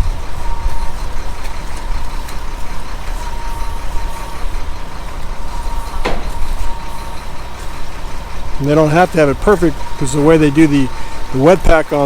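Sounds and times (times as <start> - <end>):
diesel truck engines rumbling: 0.0 - 12.0
faint steady whine: 0.0 - 12.0.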